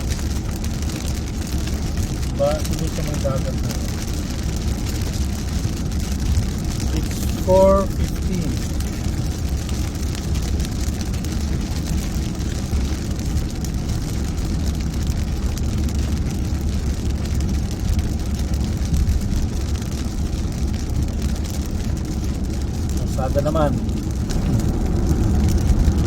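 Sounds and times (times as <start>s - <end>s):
engine and road rumble: 0.0s - 26.0s
rain and wet tyres hissing: 0.0s - 26.0s.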